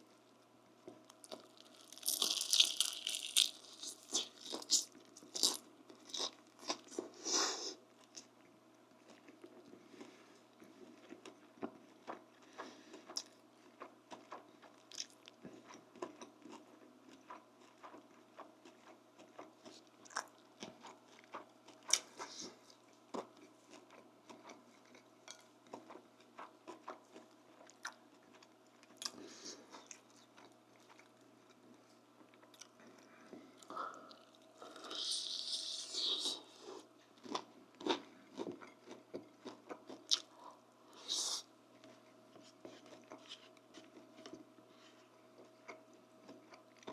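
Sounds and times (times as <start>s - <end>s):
person chewing crunchy food: 0.8s - 46.9s.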